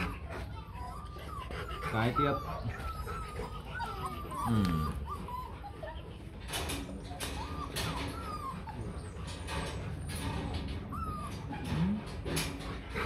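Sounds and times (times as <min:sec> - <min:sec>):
puppy whimpering: 0:00.0 - 0:13.0.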